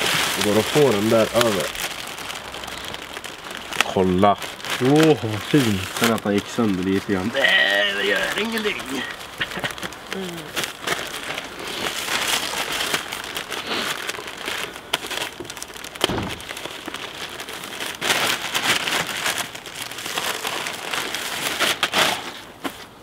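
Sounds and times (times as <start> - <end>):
plastic bags rustling and crinkling: 0.0 - 23.0.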